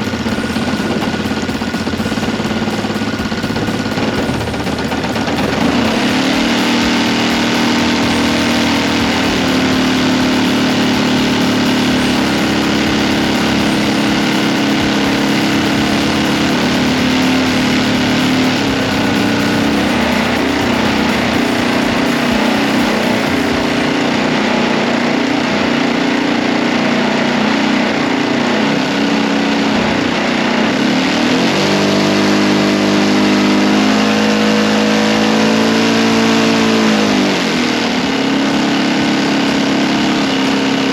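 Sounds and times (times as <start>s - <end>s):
model aircraft engine running: 0.0s - 40.9s.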